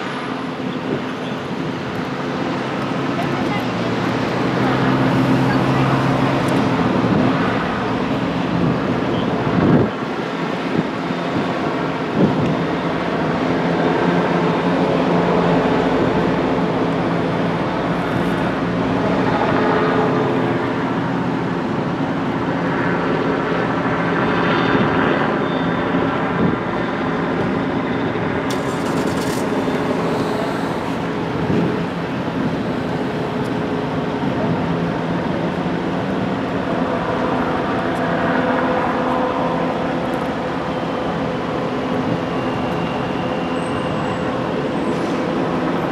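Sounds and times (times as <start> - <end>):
vehicle engines idling: 0.0 - 23.9, 27.0 - 45.9
road traffic passing: 0.0 - 45.9.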